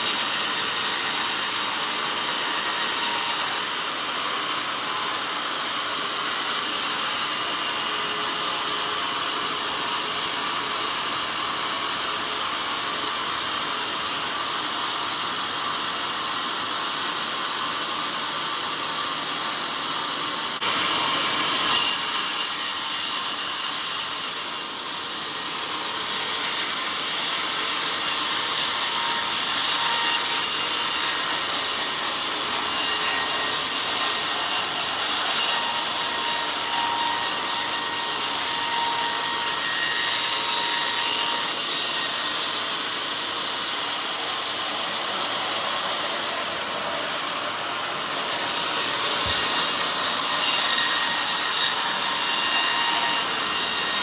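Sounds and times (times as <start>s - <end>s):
band saw cutting through log: 0.0s - 54.0s.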